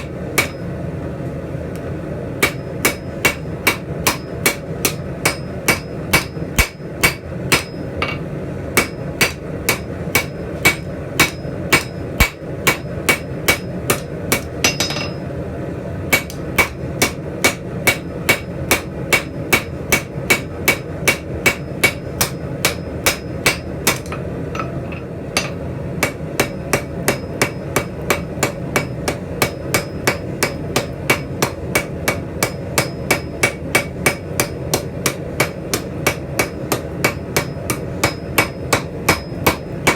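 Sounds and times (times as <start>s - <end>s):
hammer striking steel on anvil: 0.0s - 0.7s, 2.4s - 15.3s, 16.1s - 39.9s
steady low hum: 0.0s - 39.9s.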